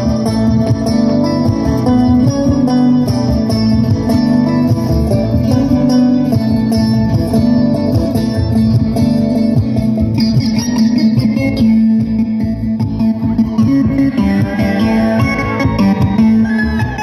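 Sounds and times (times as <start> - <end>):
bluegrass string band playing: 0.0 - 17.0.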